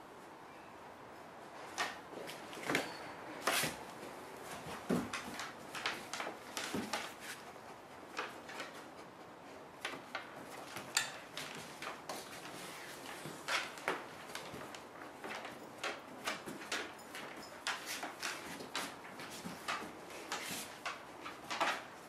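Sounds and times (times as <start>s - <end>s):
dog moving about a room: 1.4s - 22.0s.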